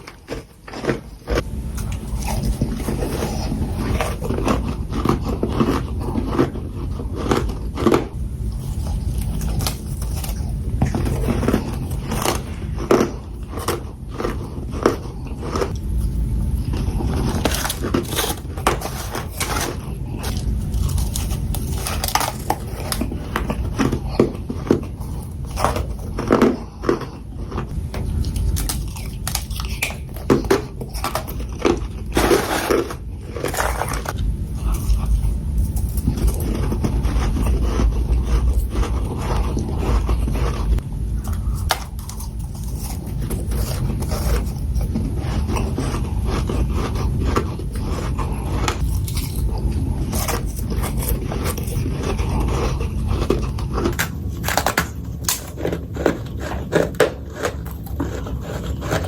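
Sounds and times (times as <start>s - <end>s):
frost crunching and scraping: 0.0s - 59.0s
steady low rumble: 0.0s - 59.0s.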